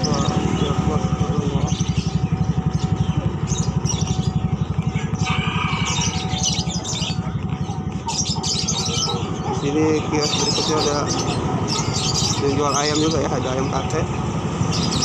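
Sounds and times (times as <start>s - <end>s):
caged birds chirping: 0.0s - 15.0s
motorcycle engine puttering: 0.0s - 15.0s.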